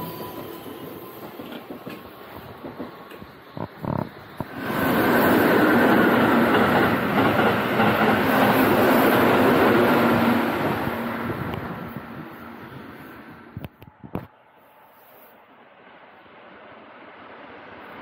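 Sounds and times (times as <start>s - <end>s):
train passing at speed: 0.0s - 18.0s.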